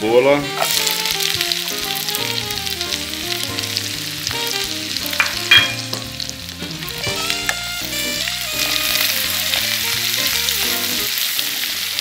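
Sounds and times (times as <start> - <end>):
onion sizzling in frying pan: 0.0 - 12.0.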